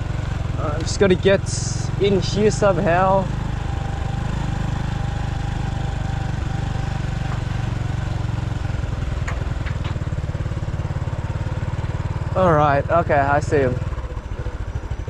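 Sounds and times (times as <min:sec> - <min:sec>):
motorbike engine running: 0:00.0 - 0:15.0
road noise: 0:00.0 - 0:15.0.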